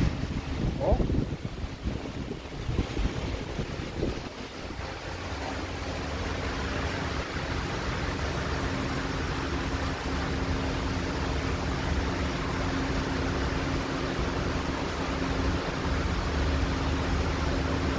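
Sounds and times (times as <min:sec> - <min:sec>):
ventilation fan: 0:00.0 - 0:17.9.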